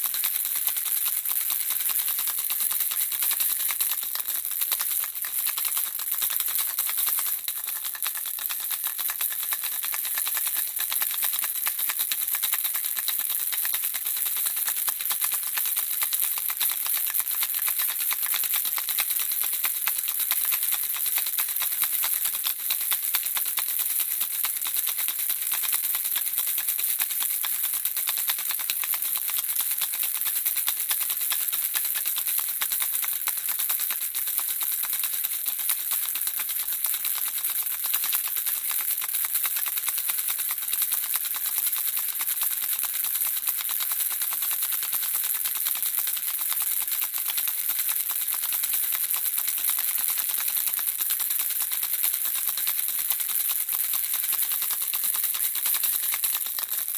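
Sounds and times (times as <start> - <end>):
baby rattle shaken: 0.0 - 56.9.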